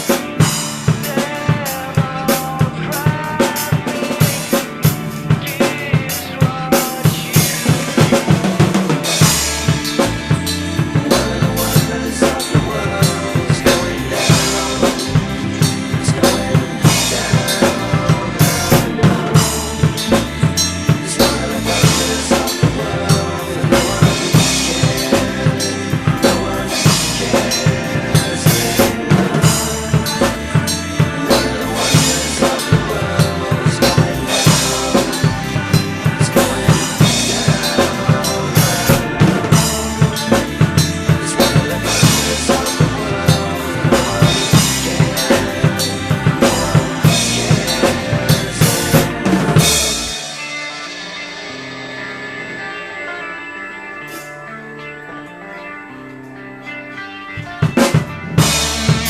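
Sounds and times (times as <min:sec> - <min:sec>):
drum kit playing: 0:00.0 - 0:54.5, 0:57.4 - 0:59.0
recorded rock song: 0:00.0 - 0:59.0.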